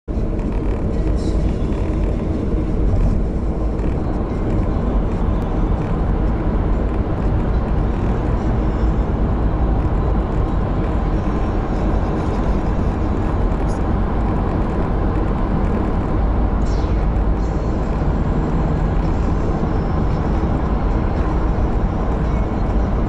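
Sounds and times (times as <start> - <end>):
car cabin road rumble: 0.1 - 23.0.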